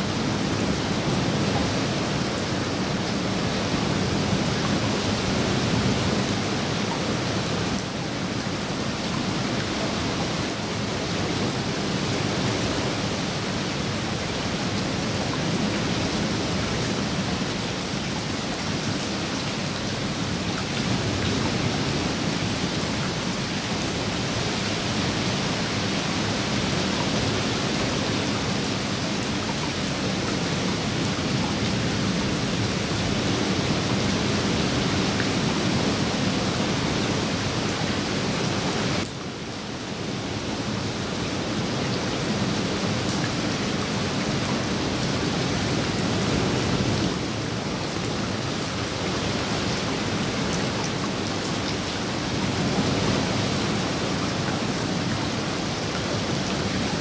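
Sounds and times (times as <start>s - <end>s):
rain falling on pool water: 0.0s - 57.0s.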